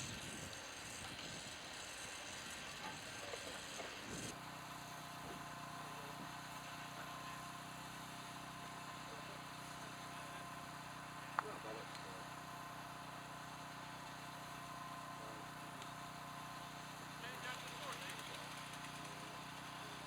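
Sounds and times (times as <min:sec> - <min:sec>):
steady engine hum: 0:00.0 - 0:20.0.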